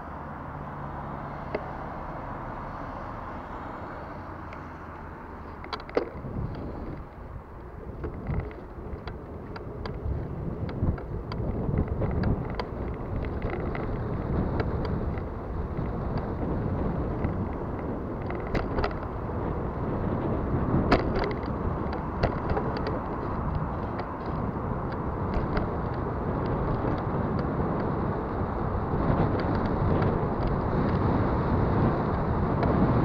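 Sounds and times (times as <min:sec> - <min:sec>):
wind and road noise: 0:00.0 - 0:33.0
bicycle clicks and knocks: 0:05.4 - 0:33.0.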